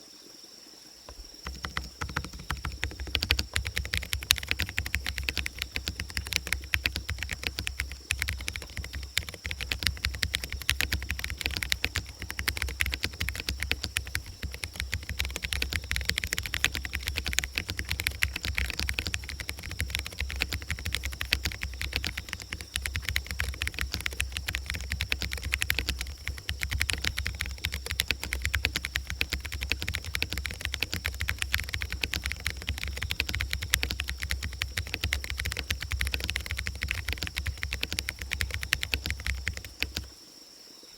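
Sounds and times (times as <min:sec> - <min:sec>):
typing on mechanical keyboard: 0:01.1 - 0:40.1.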